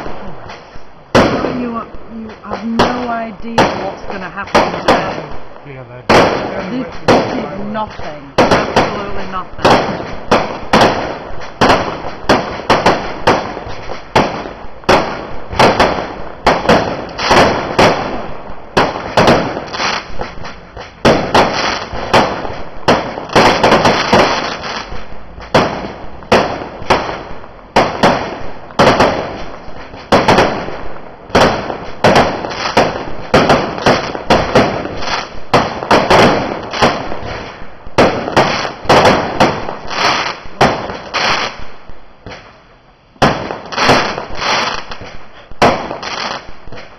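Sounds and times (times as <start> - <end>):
fireworks banging: 0.0 - 46.9.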